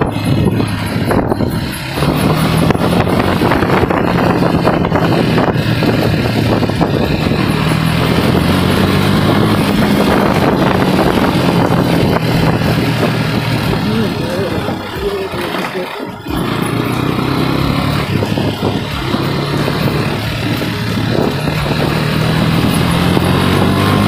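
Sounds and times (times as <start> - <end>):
motorcycle engine running: 0.0 - 24.0
road noise: 0.0 - 24.0
wind noise: 0.0 - 24.0.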